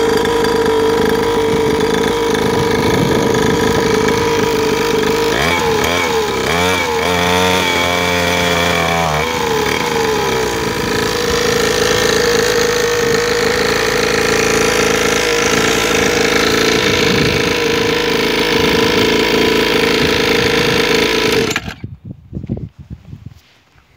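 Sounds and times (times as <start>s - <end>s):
two-stroke engine running: 0.0s - 21.8s.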